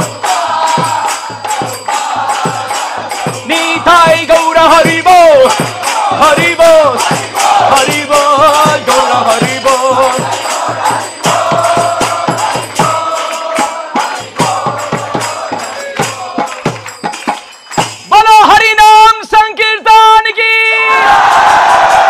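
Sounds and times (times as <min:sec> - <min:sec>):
group chanting: 0:00.0 - 0:17.0, 0:21.0 - 0:22.0
drum quick repeated strokes: 0:00.0 - 0:18.2
metallic jingle: 0:00.0 - 0:18.7.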